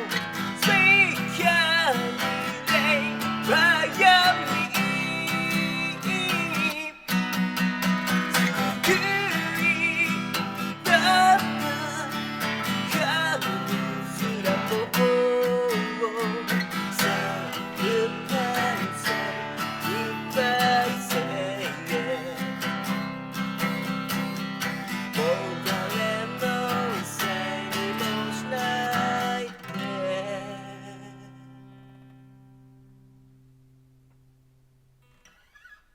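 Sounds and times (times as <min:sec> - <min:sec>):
person singing rock ballad: 0:00.0 - 0:23.0, 0:24.7 - 0:31.6
acoustic guitar strumming: 0:00.0 - 0:35.9.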